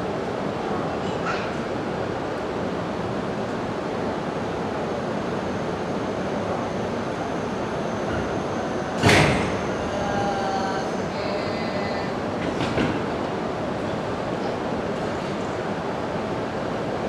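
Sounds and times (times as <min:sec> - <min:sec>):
train equipment humming: 0:01.7 - 0:17.0.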